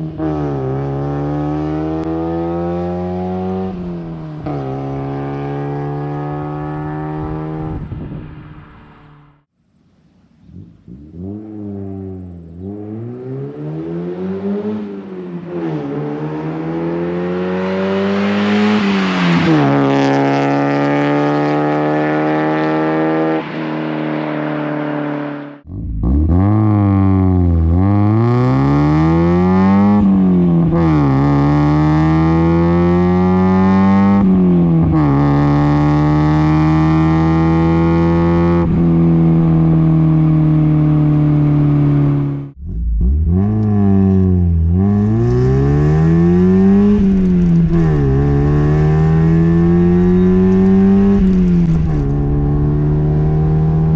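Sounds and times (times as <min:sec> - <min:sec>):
car exhaust accelerating: 0:00.0 - 0:09.5, 0:10.1 - 0:53.9.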